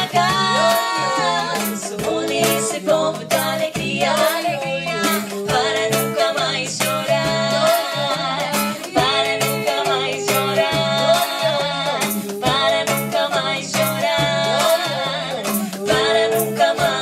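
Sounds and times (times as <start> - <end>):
bass: 0.0 - 17.0
hand percussion: 0.0 - 17.0
person singing: 0.0 - 17.0
plucked strings: 0.0 - 17.0.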